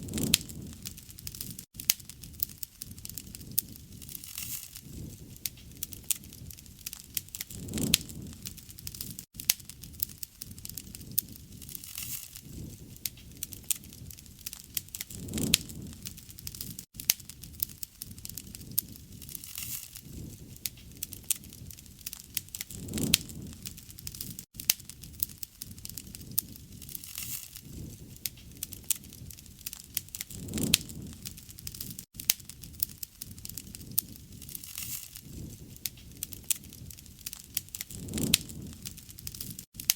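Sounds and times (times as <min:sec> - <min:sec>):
campfire popping and snapping: 0:00.0 - 0:39.9
low rumble of flames: 0:00.0 - 0:39.9.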